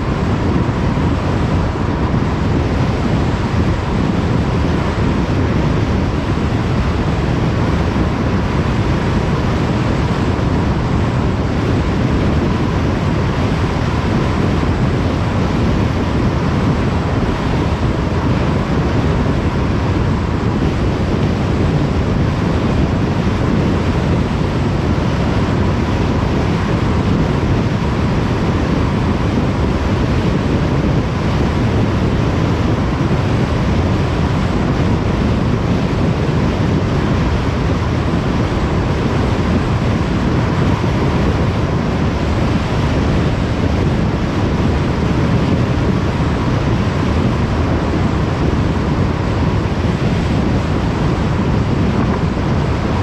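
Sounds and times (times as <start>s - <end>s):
wind rushing: 0.0s - 53.0s.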